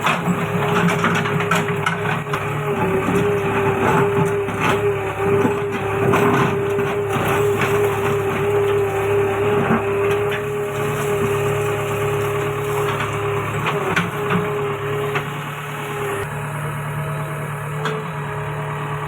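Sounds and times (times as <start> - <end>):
construction machinery engine running: 0.0 - 19.0.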